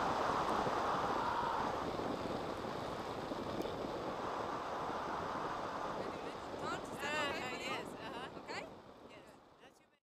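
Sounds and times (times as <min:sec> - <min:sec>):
wind rushing over microphone: 0:00.0 - 0:09.6.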